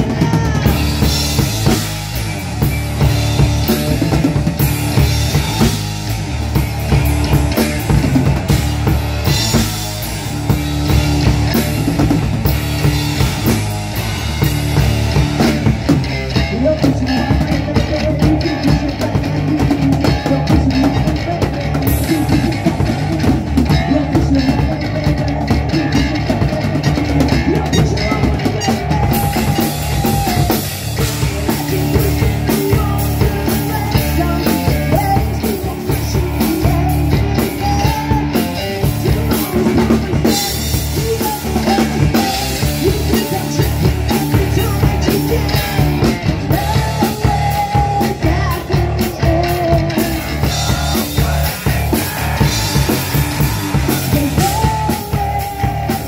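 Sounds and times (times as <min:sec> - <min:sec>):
drum kit beat: 0:00.0 - 0:56.0
electric bass guitar: 0:00.0 - 0:56.0
rock band playing: 0:00.0 - 0:56.0.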